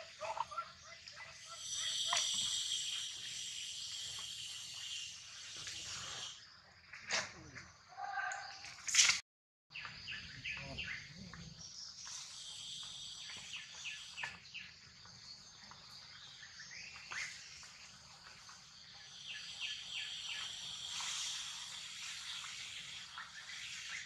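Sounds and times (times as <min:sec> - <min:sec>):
insect drone: 0:00.0 - 0:08.9, 0:09.8 - 0:24.0.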